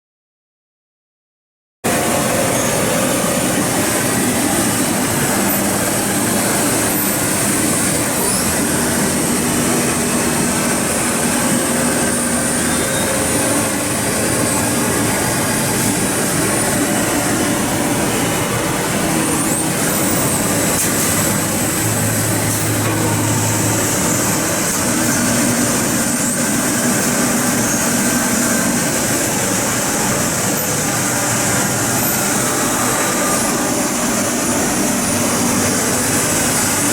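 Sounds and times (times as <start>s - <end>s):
lathe running with loud hiss: 1.9s - 36.9s.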